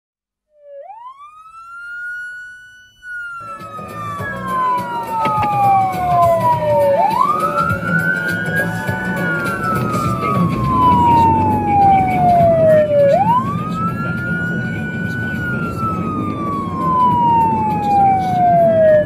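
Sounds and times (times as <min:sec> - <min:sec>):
fire engine siren wailing: 0:00.5 - 0:19.0
truck engine and road noise: 0:03.2 - 0:19.0.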